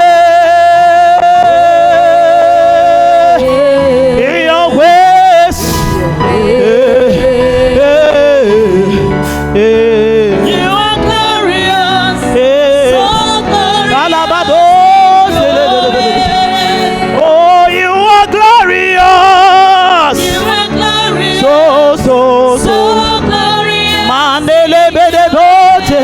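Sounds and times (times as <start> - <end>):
keyboard accompaniment: 0.0 - 26.0
person singing gospel song: 0.0 - 26.0.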